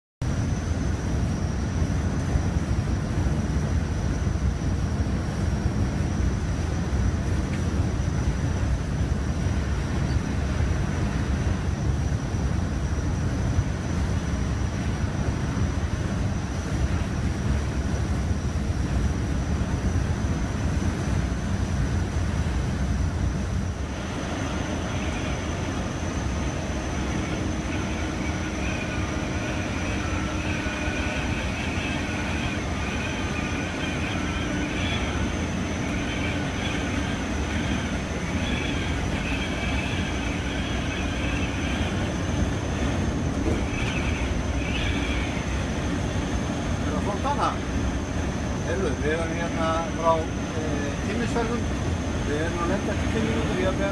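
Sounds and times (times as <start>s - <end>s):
bus engine and tyre rumble: 0.2s - 53.9s
thin high whine: 0.2s - 53.9s.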